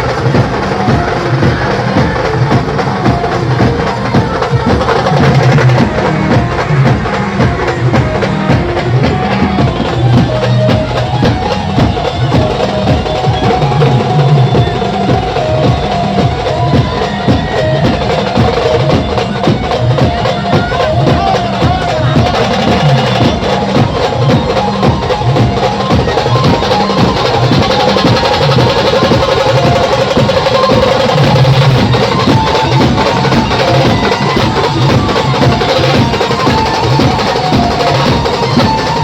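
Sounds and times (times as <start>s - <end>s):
fast driving drumming: 0.0s - 39.0s
procession band music: 0.0s - 39.0s.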